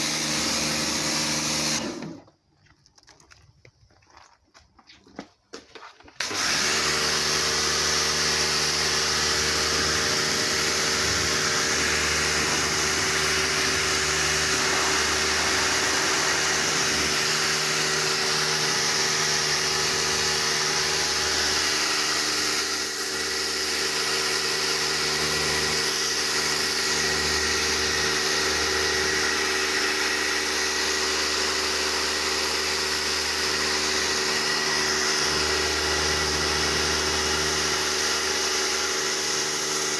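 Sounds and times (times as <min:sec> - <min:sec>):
pressure washer running: 0:00.0 - 0:02.2, 0:06.2 - 0:39.9.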